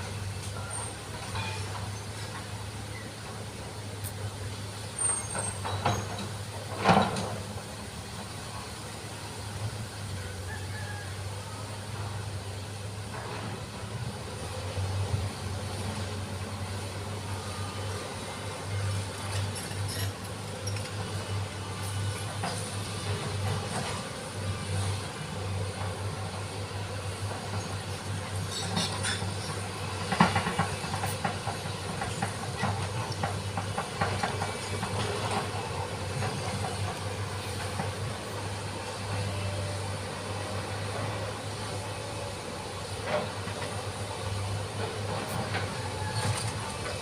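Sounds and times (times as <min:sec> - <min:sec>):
excavator diesel engine hum: 0:00.0 - 0:47.0.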